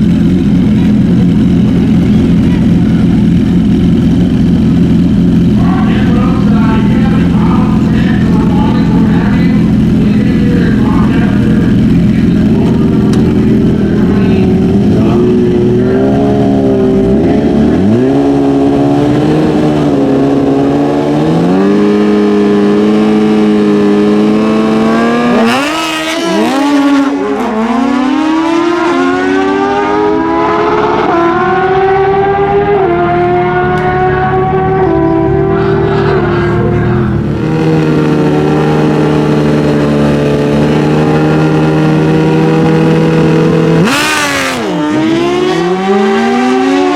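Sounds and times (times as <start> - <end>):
motorcycle engines at full throttle: 0.0 - 46.9.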